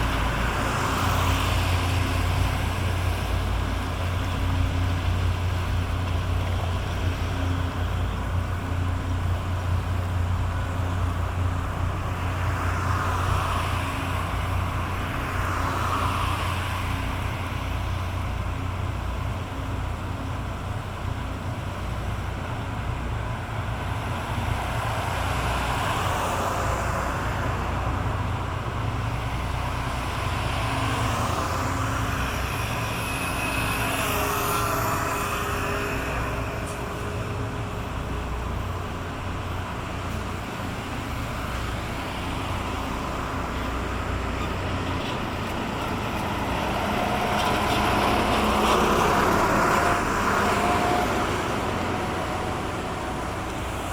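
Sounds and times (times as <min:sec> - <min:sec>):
ship diesel engines rumbling: 0:00.0 - 0:53.9.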